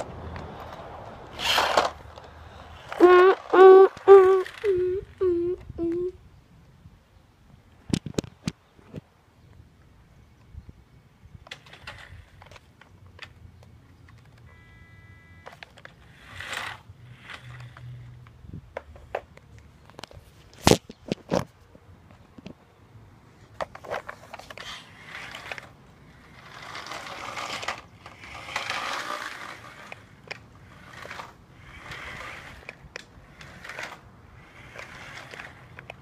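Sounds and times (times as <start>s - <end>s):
toy car tyres rolling on concrete: 0.0s - 6.1s, 11.3s - 22.6s, 23.3s - 36.0s.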